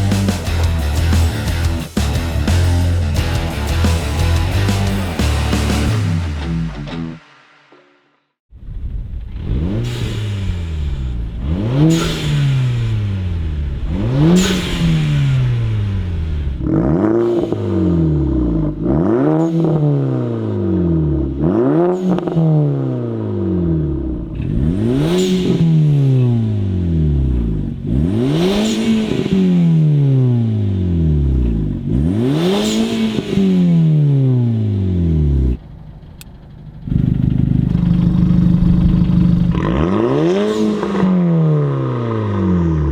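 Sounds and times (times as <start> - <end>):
car engine revving: 0.0 - 8.0, 8.8 - 42.9.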